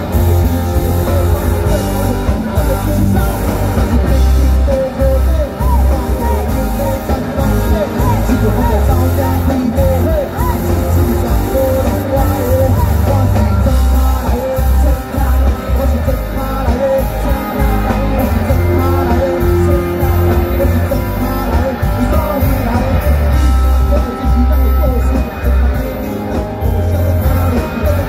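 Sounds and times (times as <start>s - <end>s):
amplified singing: 0.0s - 28.0s
drum kit: 0.0s - 28.0s
electric bass: 0.0s - 28.0s
electric guitar: 0.0s - 28.0s.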